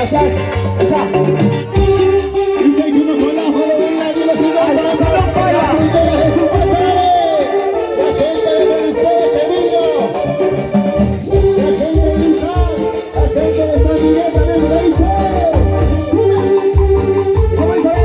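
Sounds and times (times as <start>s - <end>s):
live band playing latin music: 0.0s - 18.0s.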